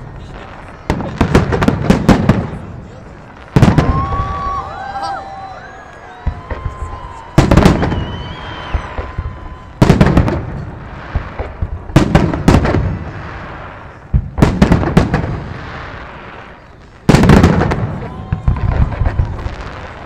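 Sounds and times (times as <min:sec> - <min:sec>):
fireworks bursting with sharp bangs: 0:00.0 - 0:20.0
rolling rumble of fireworks: 0:00.0 - 0:20.0.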